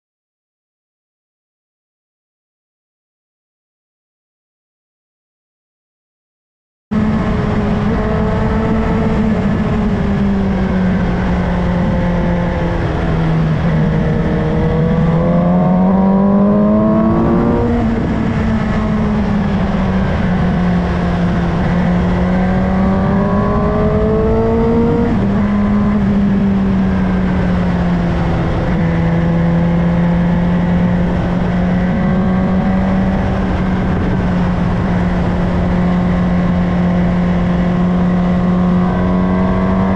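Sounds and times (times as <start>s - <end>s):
wind noise: 6.9s - 39.9s.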